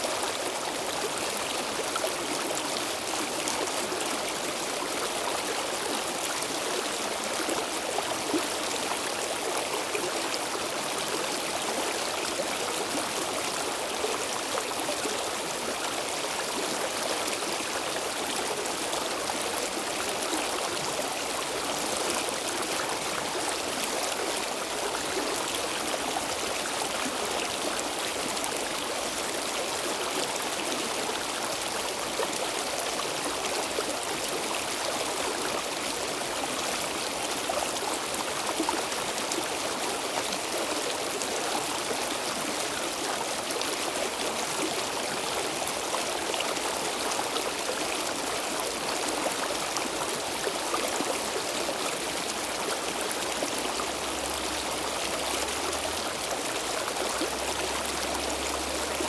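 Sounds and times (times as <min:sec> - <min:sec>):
stream water flowing over rocks: 0:00.0 - 0:59.0.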